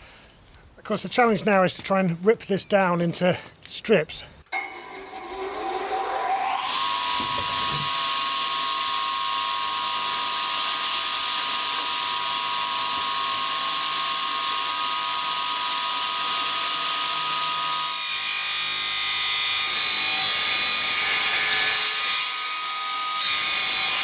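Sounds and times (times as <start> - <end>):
electric power saw whining: 4.5 - 24.0.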